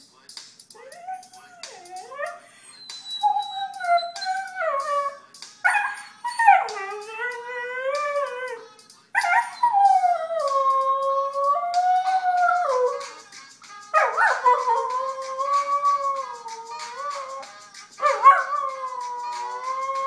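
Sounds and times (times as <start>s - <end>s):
faint pop music: 0.0s - 20.0s
dog howling: 0.8s - 8.6s, 9.2s - 13.2s, 14.0s - 20.0s.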